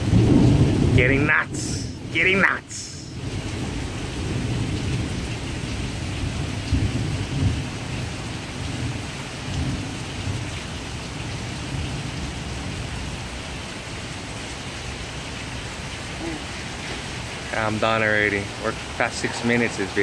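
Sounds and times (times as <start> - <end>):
thunder rumbling: 0.0 - 13.6, 15.0 - 20.0
steady rain: 0.0 - 20.0.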